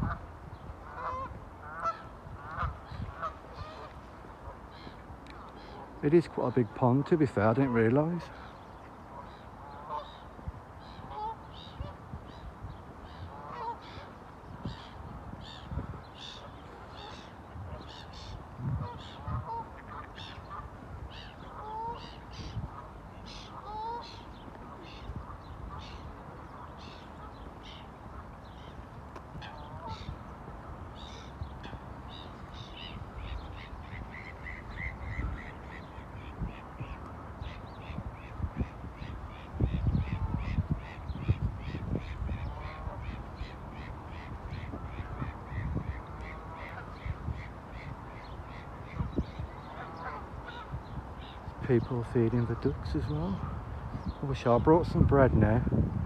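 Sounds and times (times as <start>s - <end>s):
ducks calling: 0.8s - 54.6s.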